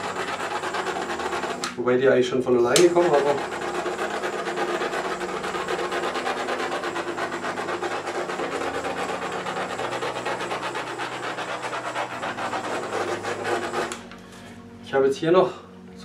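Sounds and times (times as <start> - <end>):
hair dryer running: 0.0 - 1.8, 2.7 - 14.3.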